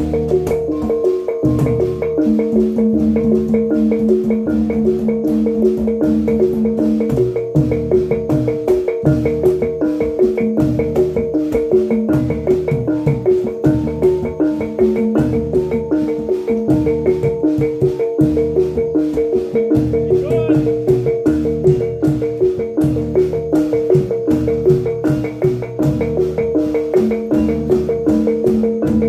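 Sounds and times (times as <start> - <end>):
gamelan playing: 0.0 - 29.0.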